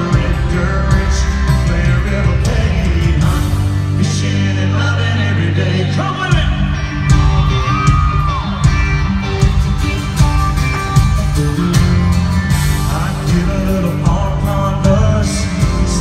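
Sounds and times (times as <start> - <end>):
steady drum beat: 0.0 - 4.2, 6.2 - 16.0
acoustic guitar: 0.0 - 16.0
live country band music: 0.0 - 16.0.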